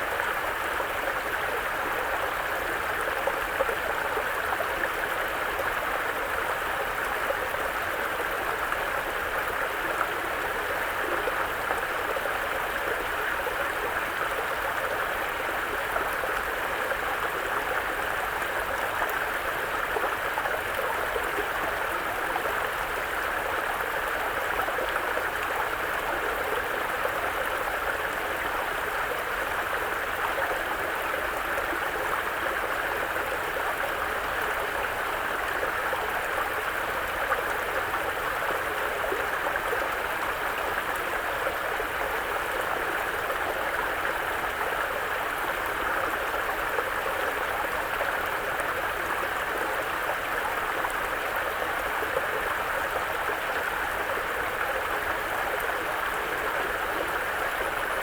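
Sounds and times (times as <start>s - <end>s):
brook flowing over rocks: 0.0s - 58.0s.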